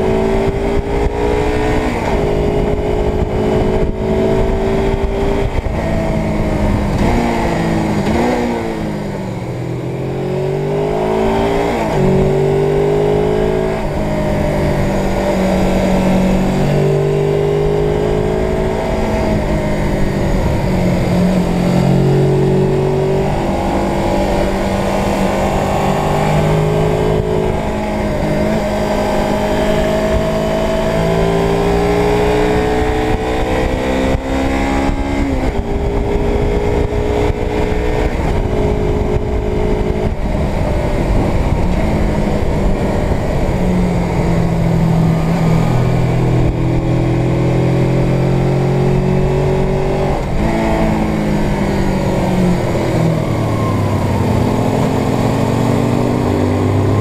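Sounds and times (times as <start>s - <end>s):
motorcycle engine revving through gears: 0.0s - 57.0s
wind on microphone: 0.0s - 57.0s.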